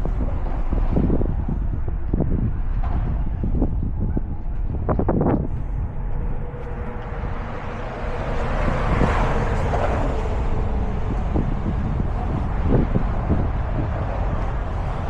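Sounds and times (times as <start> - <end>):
vehicle and road noise: 0.0 - 15.0
wind on microphone: 0.0 - 15.0.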